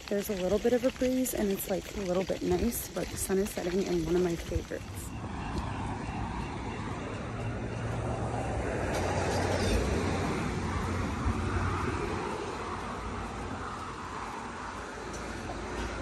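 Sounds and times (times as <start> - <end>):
background traffic noise: 0.0 - 16.0
car passing: 0.0 - 16.0.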